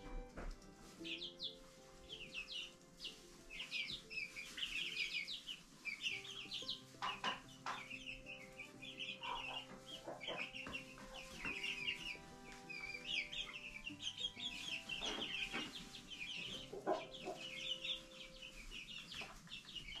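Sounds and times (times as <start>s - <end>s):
chickens clucking: 0.0s - 20.0s
chicks peeping and chirping: 0.0s - 20.0s.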